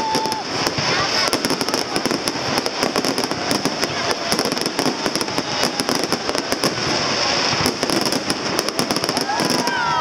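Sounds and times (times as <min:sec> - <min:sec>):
fireworks bangs and crackling: 0:00.0 - 0:10.0.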